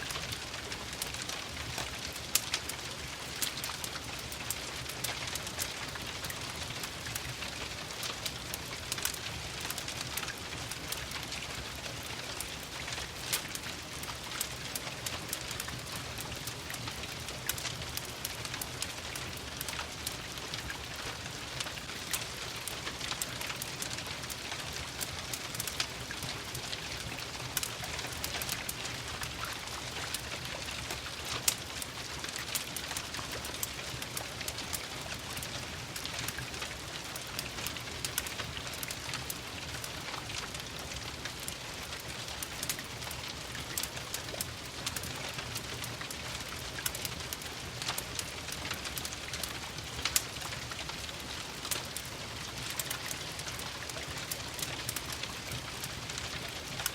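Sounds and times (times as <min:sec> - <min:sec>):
steady rain falling: 0:00.0 - 0:56.9
wood fire crackling: 0:00.0 - 0:56.9.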